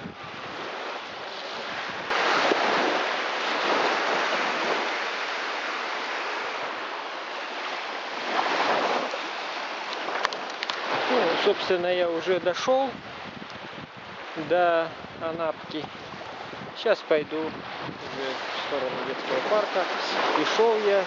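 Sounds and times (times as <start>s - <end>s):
waves washing onto beach: 0.0s - 21.0s
wind on microphone: 0.0s - 21.0s.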